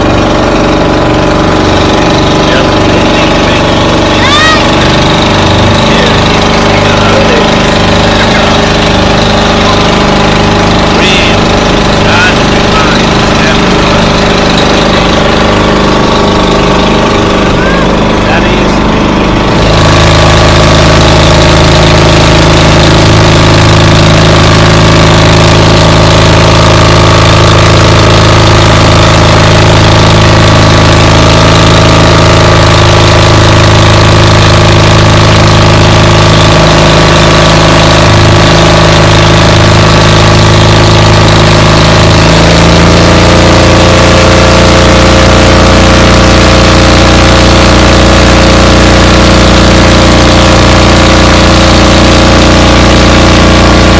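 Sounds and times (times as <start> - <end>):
engine running loudly: 0.0 - 53.9.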